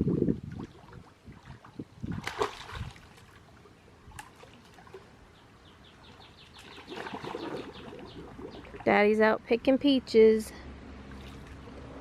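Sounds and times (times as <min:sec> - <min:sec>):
pool water splashing: 0:00.0 - 0:09.4, 0:10.9 - 0:12.0.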